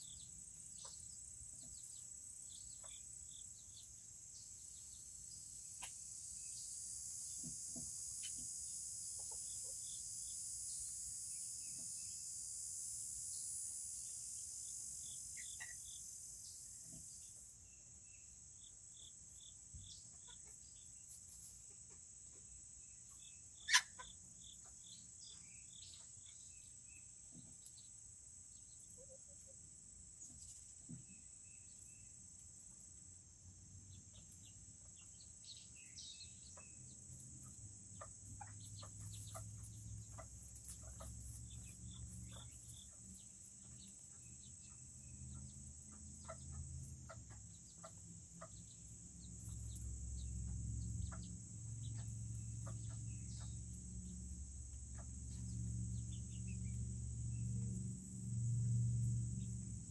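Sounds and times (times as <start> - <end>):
chickens cheeping and clucking: 0.0 - 12.2, 14.4 - 18.0, 18.6 - 32.8, 33.5 - 57.8
high-pitched insect trill: 0.0 - 59.9.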